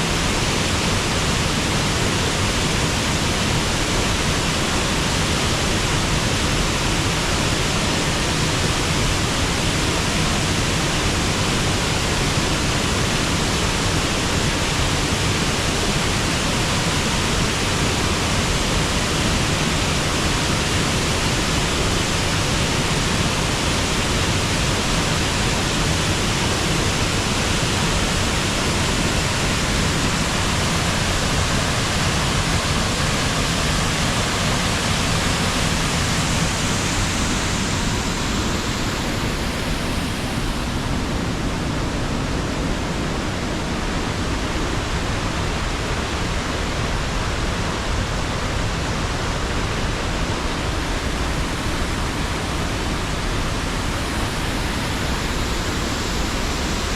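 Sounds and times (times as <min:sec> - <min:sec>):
waterfall and river rushing: 0:00.0 - 0:56.9.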